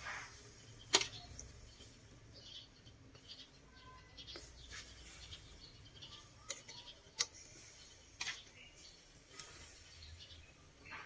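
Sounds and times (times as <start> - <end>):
charcoal fire crackling and popping: 0.0 - 11.0.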